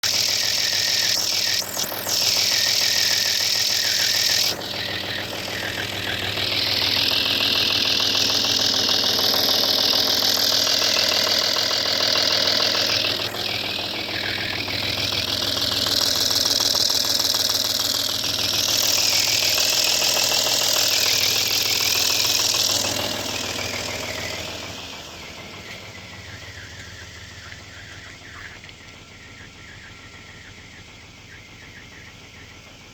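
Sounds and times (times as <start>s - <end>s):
diesel engine running unevenly: 0.0s - 32.9s.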